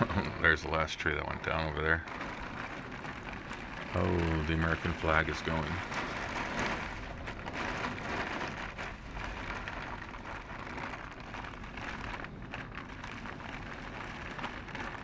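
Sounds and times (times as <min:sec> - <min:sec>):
rain pattering on a surface: 0:00.0 - 0:15.0.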